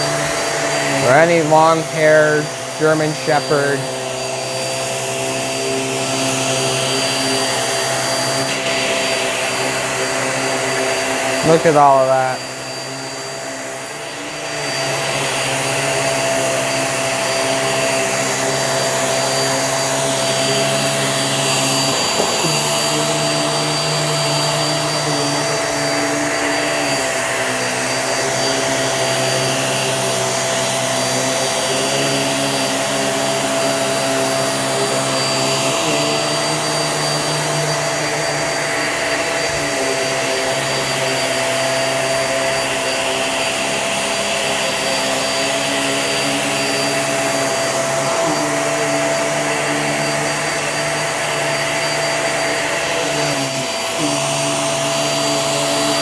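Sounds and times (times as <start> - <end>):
upright vacuum cleaner running: 0.0 - 56.0.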